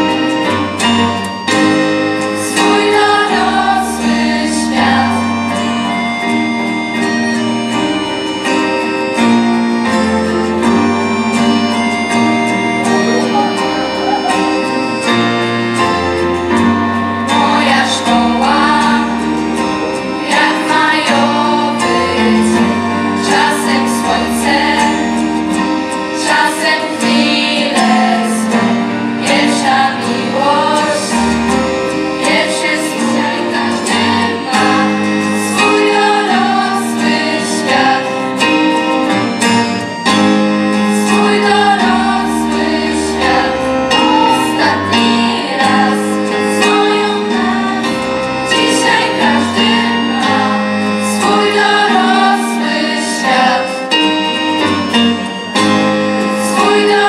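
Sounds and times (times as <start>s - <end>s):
accordion: 0.0s - 57.0s
acoustic guitar: 0.0s - 57.0s
girls' choir singing: 1.6s - 39.6s, 40.7s - 57.0s.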